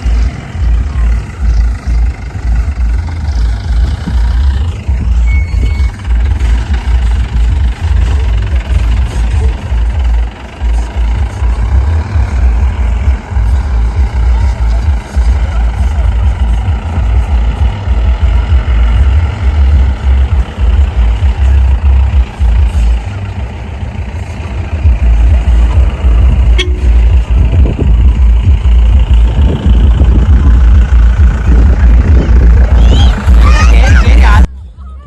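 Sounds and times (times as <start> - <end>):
jeep engine rumbling: 0.0 - 35.0.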